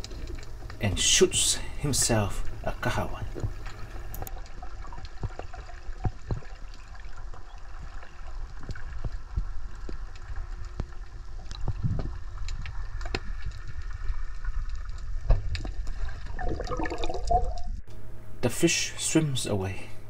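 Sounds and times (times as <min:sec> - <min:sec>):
sharp underwater clicks and crackles: 0:00.0 - 0:00.9, 0:02.1 - 0:17.8
low rumble of moving water: 0:00.0 - 0:20.0.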